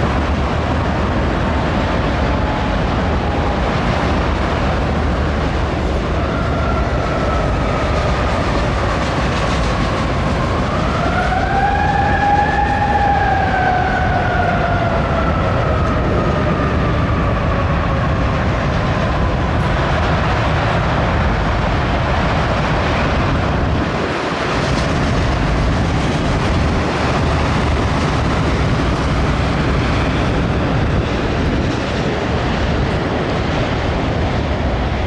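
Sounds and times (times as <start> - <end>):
clickety-clack at rail joints: 0.0 - 35.0
train wheels rumbling on rail: 0.0 - 35.0.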